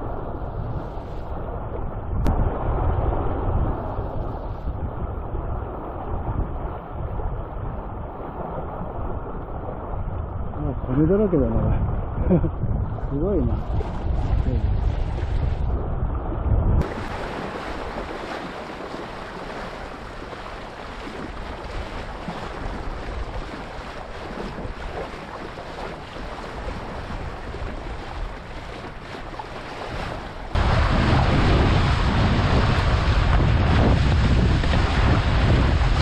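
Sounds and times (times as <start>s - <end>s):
sea water rushing and splashing: 0.0s - 12.5s, 13.2s - 36.0s
wind buffeting microphone: 0.0s - 36.0s.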